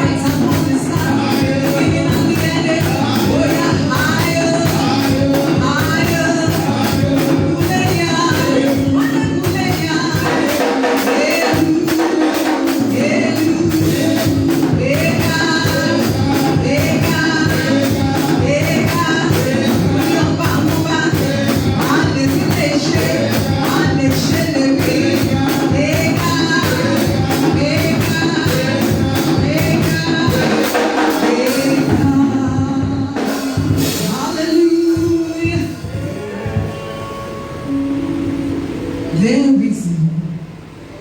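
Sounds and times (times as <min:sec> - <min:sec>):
people singing: 0:00.0 - 0:39.4
gospel band playing: 0:00.0 - 0:41.0.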